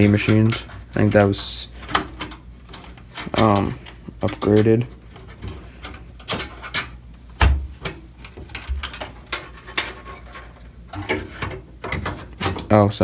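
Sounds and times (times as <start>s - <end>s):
computer parts clicking and scraping: 0.0s - 12.9s.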